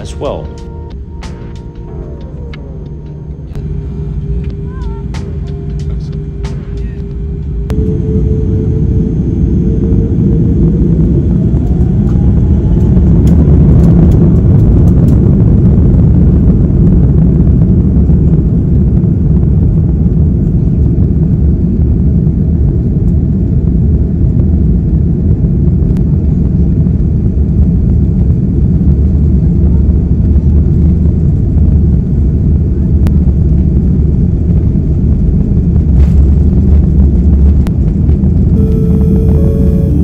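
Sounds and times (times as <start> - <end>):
jet engines rumbling and whining: 0.0 - 40.0.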